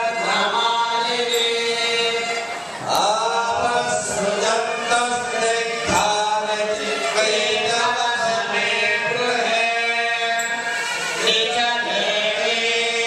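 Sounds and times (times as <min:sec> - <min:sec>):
voices chanting in unison: 0:00.0 - 0:13.0.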